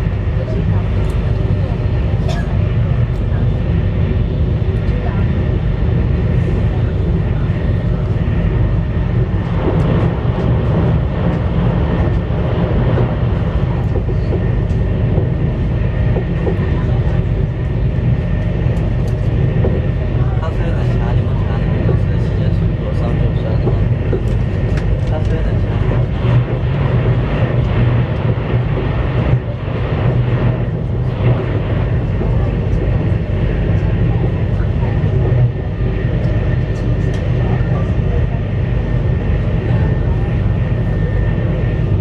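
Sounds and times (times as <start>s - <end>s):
train rumbling inside carriage: 0.0s - 42.0s.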